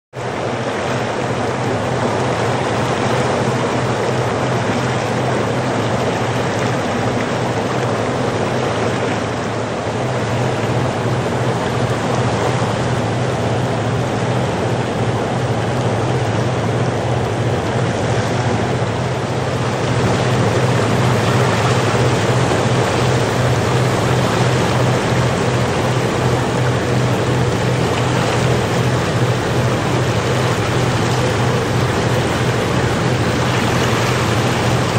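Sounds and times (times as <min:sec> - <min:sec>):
diesel boat engine droning: 0:00.2 - 0:34.9
rushing rapids: 0:00.2 - 0:34.9.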